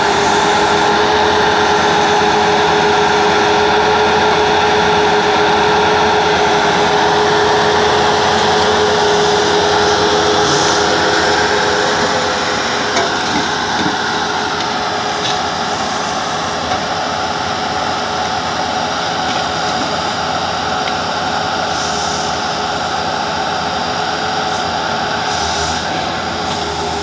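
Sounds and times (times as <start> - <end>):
loader engine running with whine: 0.0 - 27.0.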